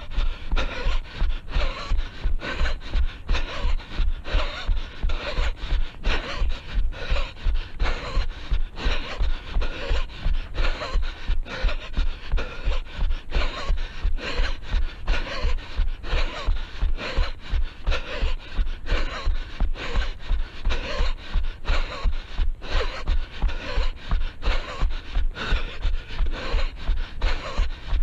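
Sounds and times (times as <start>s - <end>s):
runner breathing hard: 0.0s - 28.0s.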